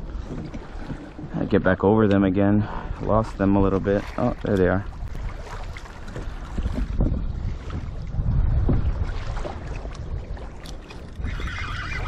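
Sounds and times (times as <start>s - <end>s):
water splashing against kayak: 0.0s - 12.0s
wind buffeting microphone: 0.0s - 12.0s.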